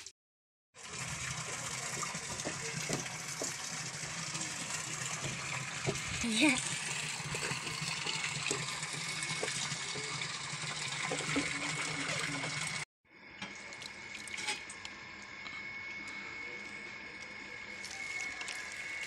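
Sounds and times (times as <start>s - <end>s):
tap water running: 0.8s - 12.8s, 13.4s - 15.3s, 17.7s - 19.0s.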